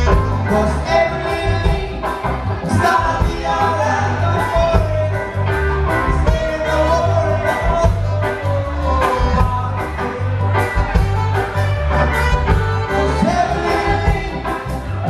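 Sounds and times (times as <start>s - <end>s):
song with singing and beat: 0.0s - 15.0s.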